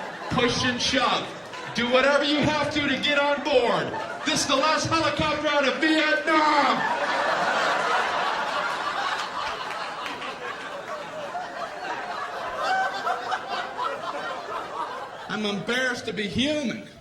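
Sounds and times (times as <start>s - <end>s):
audience laughing: 0.0s - 17.0s.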